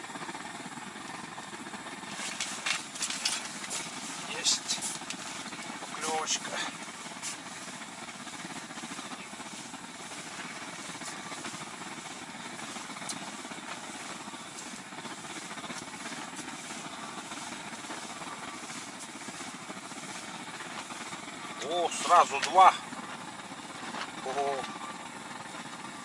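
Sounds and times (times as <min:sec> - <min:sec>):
blowtorch burning: 0:00.0 - 0:26.0.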